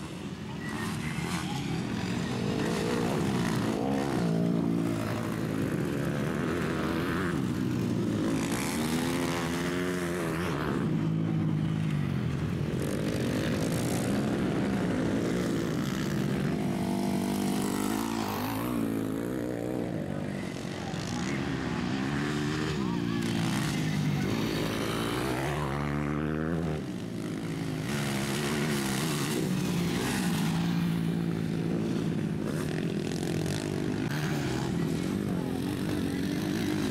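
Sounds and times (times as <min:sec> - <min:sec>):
motocross bike engines revving: 0:00.0 - 0:36.9.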